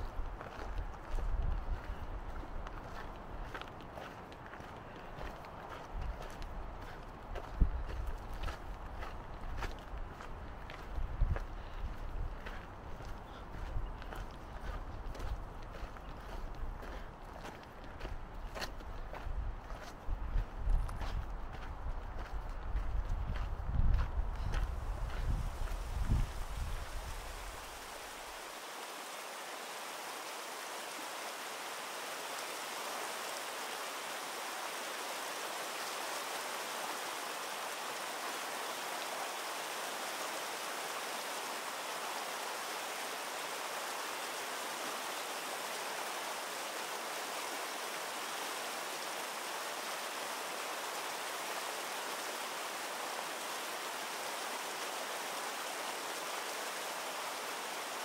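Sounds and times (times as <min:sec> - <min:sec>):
mountain stream rushing: 0:00.0 - 0:20.1, 0:24.5 - 0:58.0.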